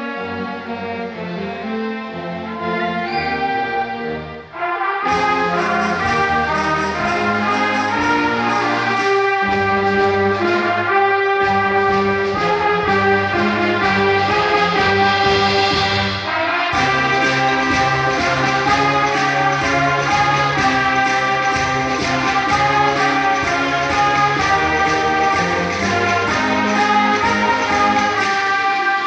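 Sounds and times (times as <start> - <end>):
brass chords: 0.0 - 29.0
concert band playing: 2.2 - 29.0.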